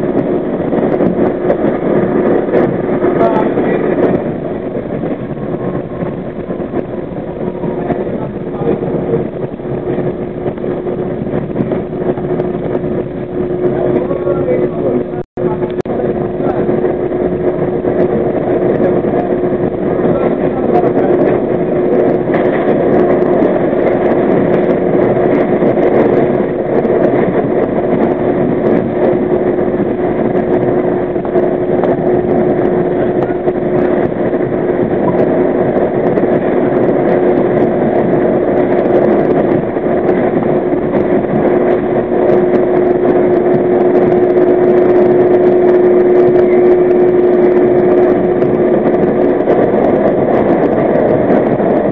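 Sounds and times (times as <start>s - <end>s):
constant hum: 0.0s - 51.9s
steel wheels rumbling on rails: 0.0s - 51.9s.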